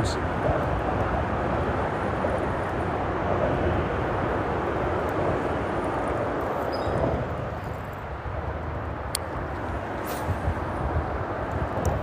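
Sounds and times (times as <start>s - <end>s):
freeway traffic drone: 0.0s - 12.0s.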